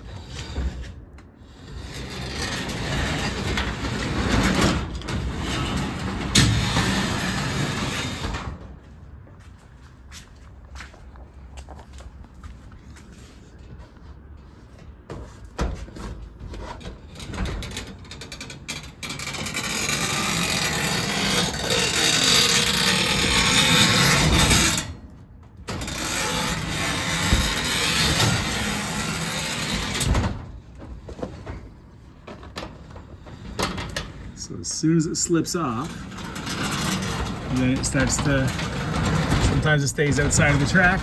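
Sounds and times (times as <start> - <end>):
garage door rattling and rumbling: 0.0 - 9.3, 14.4 - 34.7, 35.6 - 41.0.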